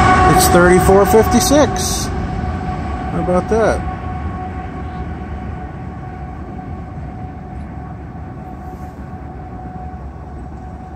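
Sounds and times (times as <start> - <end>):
freight train rumbling: 0.0 - 10.9.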